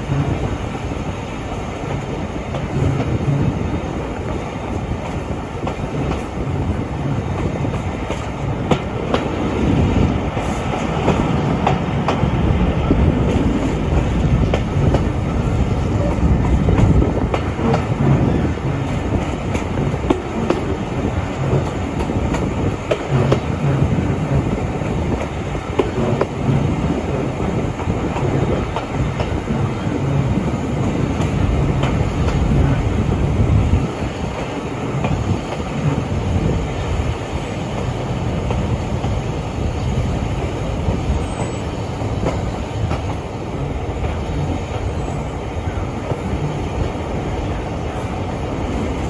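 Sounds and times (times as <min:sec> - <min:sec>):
train wheels on rails: 0:00.0 - 0:49.0.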